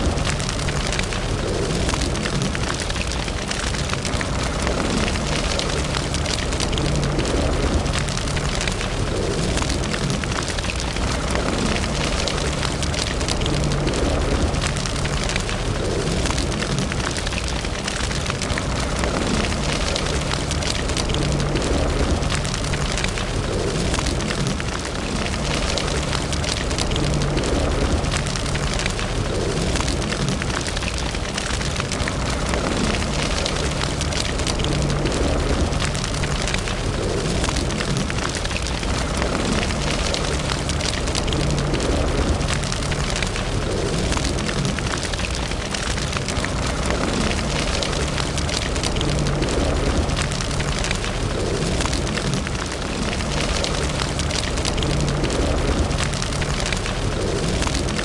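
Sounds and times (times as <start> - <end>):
fire crackling and popping: 0.0 - 58.0
fire hissing and rumbling: 0.0 - 58.0.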